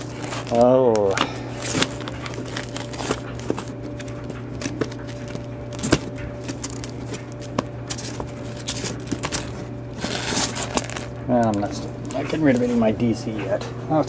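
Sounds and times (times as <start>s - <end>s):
comic books flipped by hand: 0.0s - 12.9s
plastic rustling: 0.0s - 13.0s
steady low hum: 0.0s - 14.0s.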